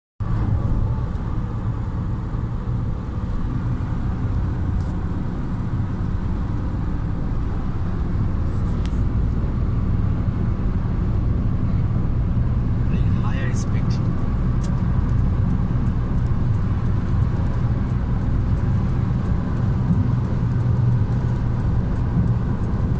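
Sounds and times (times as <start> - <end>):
car engine and tyres rumbling: 0.2 - 22.9.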